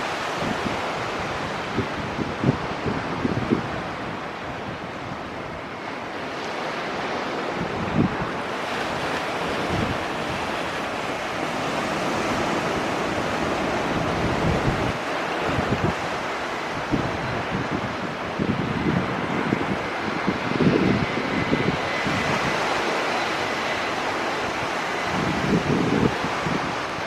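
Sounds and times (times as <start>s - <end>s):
steady rushing noise: 0.0s - 27.0s
wind buffeting microphone: 0.0s - 27.0s.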